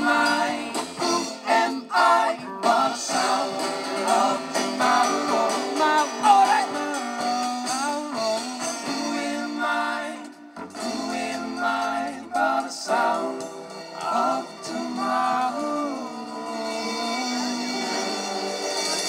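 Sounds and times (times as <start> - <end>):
guitars playing: 0.0 - 19.0
voices singing: 0.0 - 19.0.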